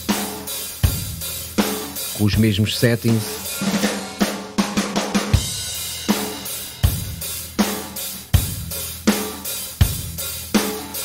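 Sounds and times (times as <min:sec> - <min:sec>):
hi-hats and cymbals: 0:00.0 - 0:11.0.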